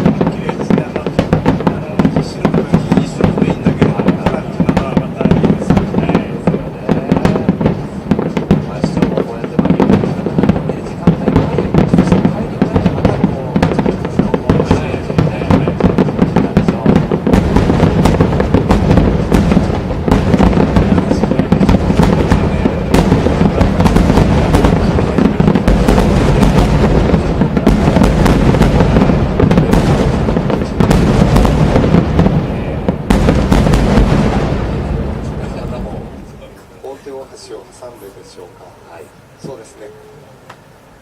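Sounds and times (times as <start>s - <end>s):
fireworks bangs and crackles: 0.0s - 40.1s.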